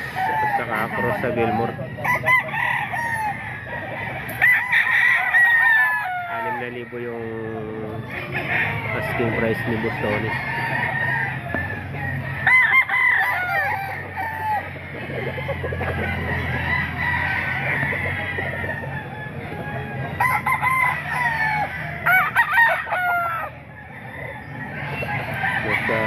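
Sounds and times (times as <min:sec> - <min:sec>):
roosters crowing: 0:00.0 - 0:26.0
steady background noise: 0:00.0 - 0:26.0.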